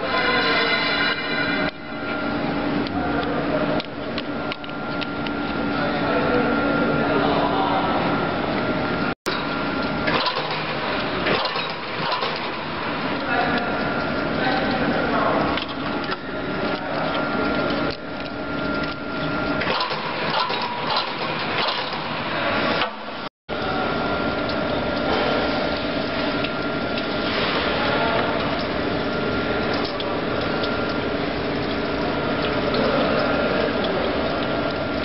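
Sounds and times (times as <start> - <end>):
machine running with high whine: 0.0 - 35.0.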